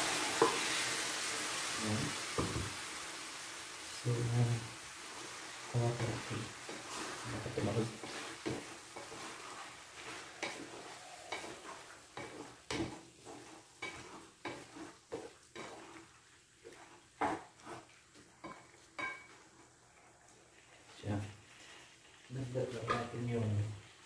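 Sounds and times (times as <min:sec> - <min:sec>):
wooden spatula scraping a pan: 0:00.0 - 0:02.7, 0:04.2 - 0:19.7, 0:21.4 - 0:23.4
faint sizzling: 0:00.0 - 0:24.0.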